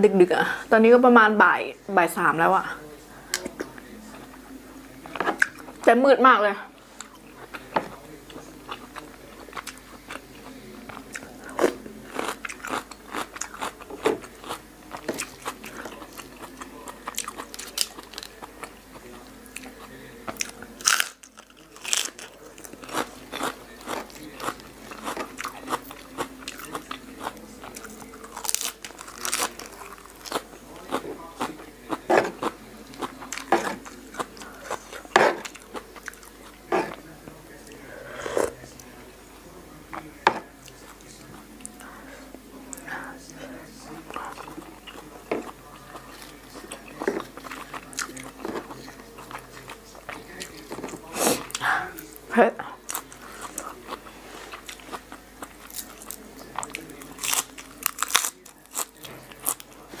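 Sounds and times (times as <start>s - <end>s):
crunching and chewing food: 2.8s - 5.9s, 6.8s - 60.0s.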